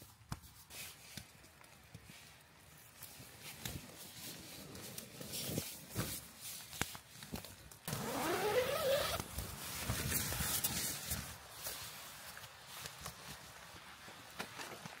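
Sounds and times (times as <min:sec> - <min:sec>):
tent fabric rustling: 0:02.0 - 0:15.0.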